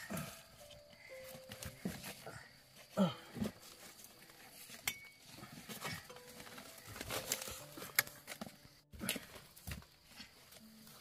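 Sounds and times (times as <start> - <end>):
rustling and crackling leaves: 0.0 - 11.0.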